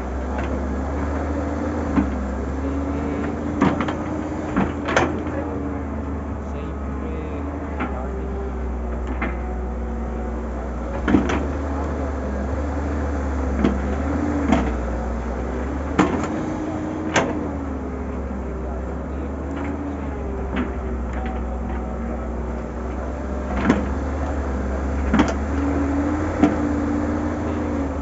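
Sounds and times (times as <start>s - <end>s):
diesel engine running: 0.0s - 28.0s
hydraulic whine: 0.0s - 28.0s.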